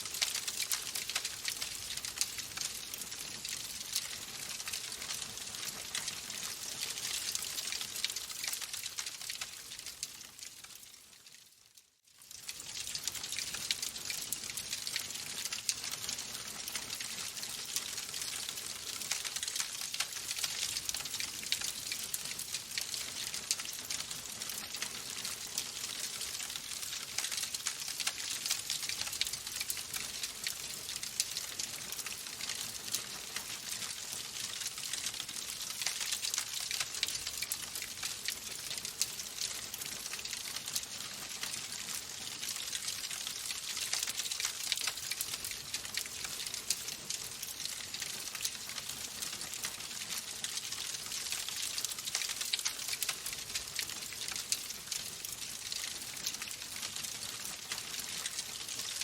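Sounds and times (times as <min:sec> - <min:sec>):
wood fire crackling: 0:00.0 - 0:11.4, 0:12.2 - 0:58.9.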